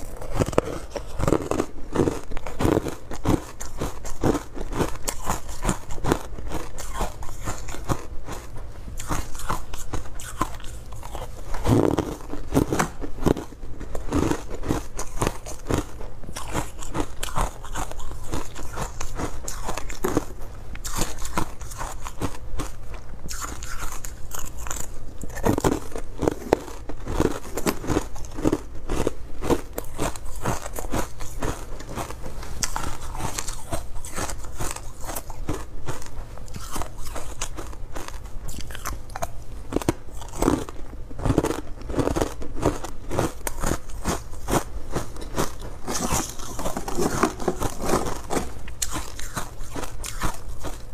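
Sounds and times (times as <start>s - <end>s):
ice crunching while chewed: 0.0s - 50.9s.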